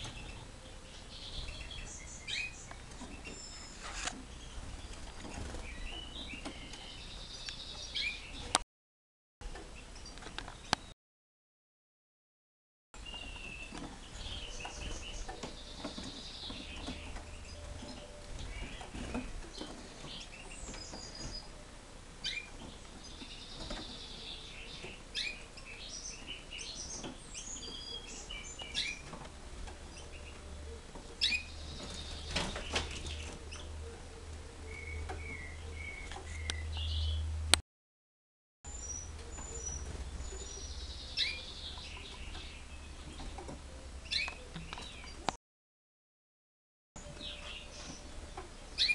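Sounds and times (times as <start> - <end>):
song thrush singing: 0.0 - 8.6, 13.0 - 37.4, 38.7 - 45.4, 47.0 - 48.9.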